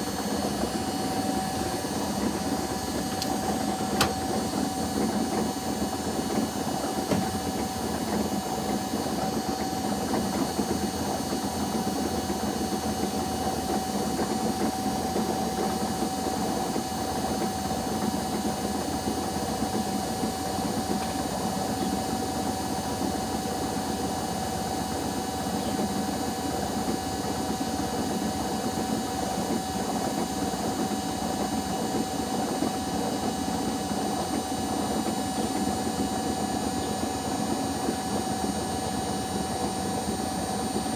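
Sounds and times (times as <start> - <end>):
washing machines spinning: 0.0 - 40.9.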